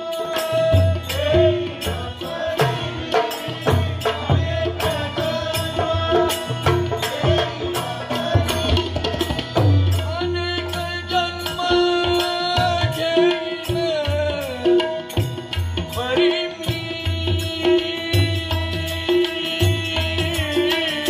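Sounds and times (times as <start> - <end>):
harmonium: 0.0 - 21.0
tabla playing: 0.0 - 21.0.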